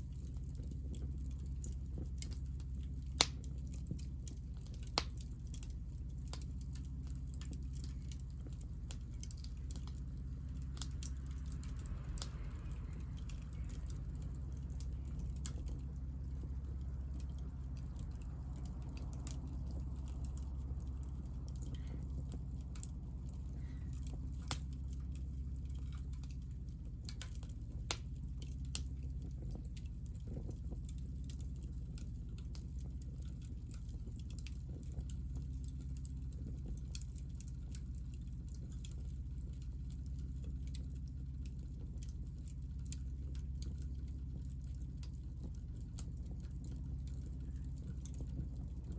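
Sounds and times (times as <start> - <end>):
fire crackling and popping: 0.0 - 48.9
fire low rumble: 0.0 - 48.9.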